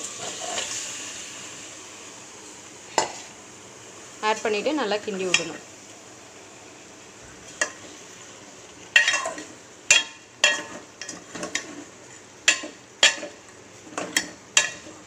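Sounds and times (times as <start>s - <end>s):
frying sizzle: 0.0s - 15.0s.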